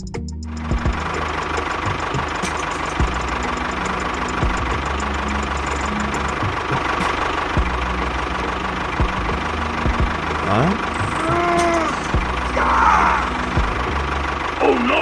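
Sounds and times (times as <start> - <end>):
machine running: 0.6 - 15.0.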